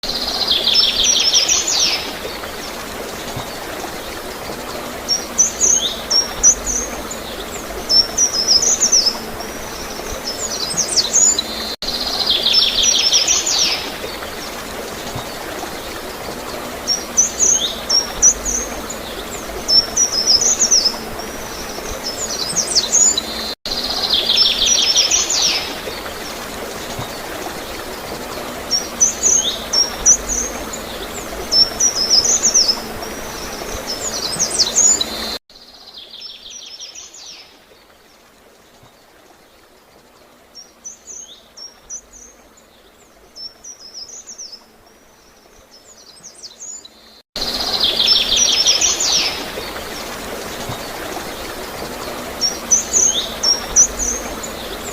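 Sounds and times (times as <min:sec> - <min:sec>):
flowing gurgling water: 0:00.0 - 0:54.9
songbirds chirping and trilling: 0:00.1 - 0:54.9.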